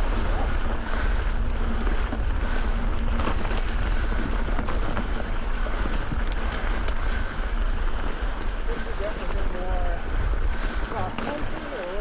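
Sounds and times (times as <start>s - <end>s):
wind rumbling on microphone: 0.0s - 12.0s
faint clicks and rattles: 1.0s - 12.0s.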